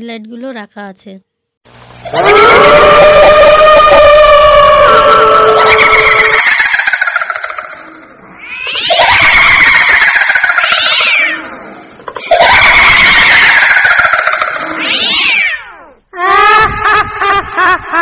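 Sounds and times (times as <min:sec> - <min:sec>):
ghostly wail: 0:02.0 - 0:17.0.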